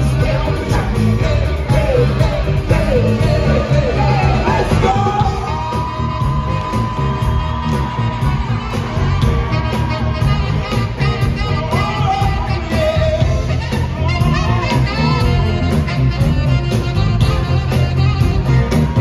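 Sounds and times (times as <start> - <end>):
band playing drums bass and keyboards: 0.0 - 19.0
saxophone solo: 1.5 - 19.0.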